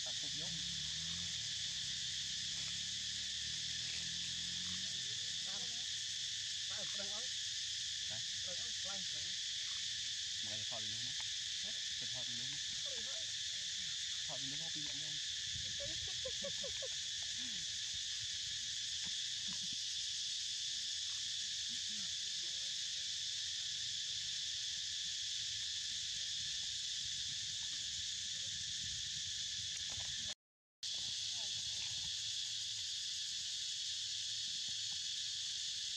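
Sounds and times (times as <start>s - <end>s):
insect chorus droning: 0.0s - 35.9s.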